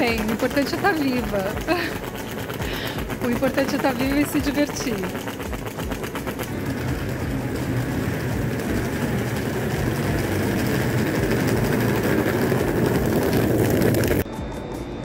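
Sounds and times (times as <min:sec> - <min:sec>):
vehicle rumbling: 0:00.0 - 0:14.2.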